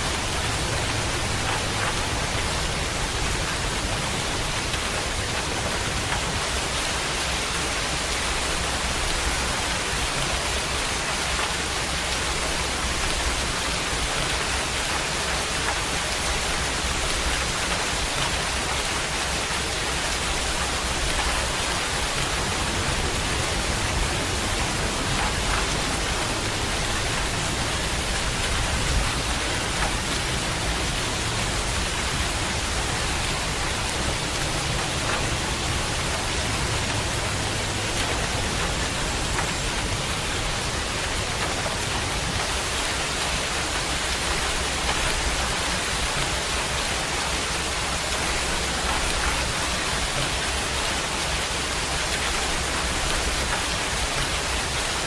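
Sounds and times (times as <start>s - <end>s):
faint raindrop ticks: 0.0s - 55.0s
steady rain hiss: 0.0s - 55.0s.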